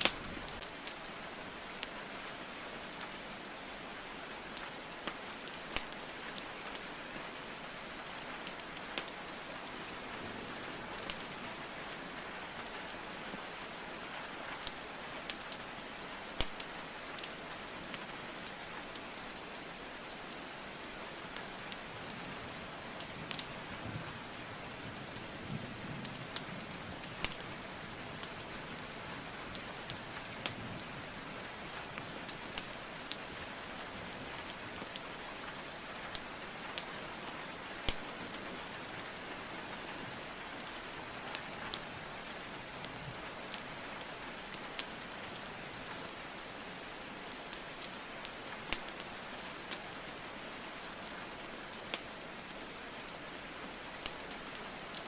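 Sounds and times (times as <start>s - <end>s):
wood logs crackling in fireplace: 0.0s - 1.1s, 1.7s - 7.8s, 8.4s - 10.0s, 10.9s - 11.8s, 14.6s - 19.2s, 21.3s - 46.5s, 47.1s - 55.0s
rain falling: 0.0s - 55.0s.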